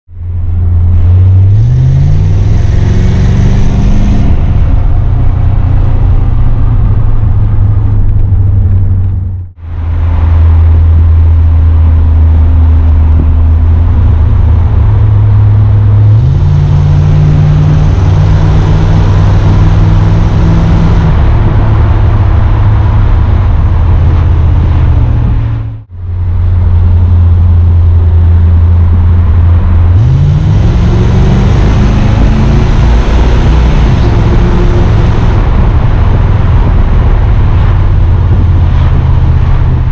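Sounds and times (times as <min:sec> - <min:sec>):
car engine revving from inside: 0:00.4 - 0:39.9.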